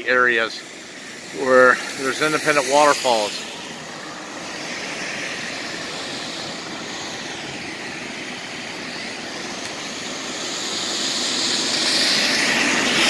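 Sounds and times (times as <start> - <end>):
waterfall rushing water: 0.3 - 13.0.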